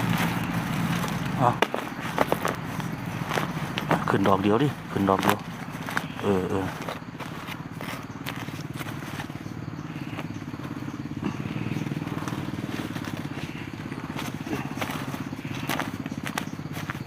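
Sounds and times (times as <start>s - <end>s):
small engine running: 0.0s - 17.0s
vegetation crackling and rustling: 0.0s - 17.0s.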